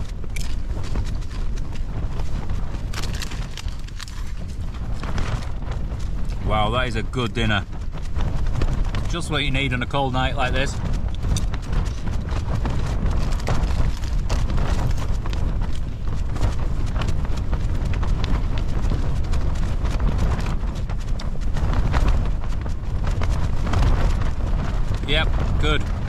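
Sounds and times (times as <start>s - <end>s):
strong wind buffeting a tent: 0.0s - 26.0s
tent fabric tapping and rattling: 0.0s - 26.0s.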